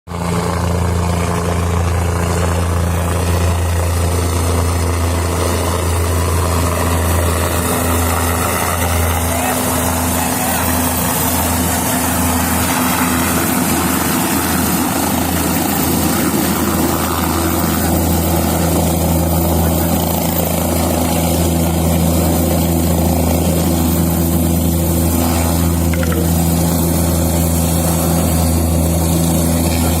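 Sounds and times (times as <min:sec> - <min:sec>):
helicopter rotors and engine: 0:00.1 - 0:30.0.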